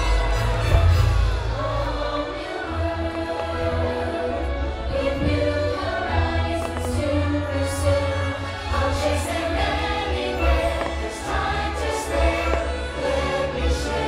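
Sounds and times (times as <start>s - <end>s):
music with choir singing: 0.0s - 14.0s.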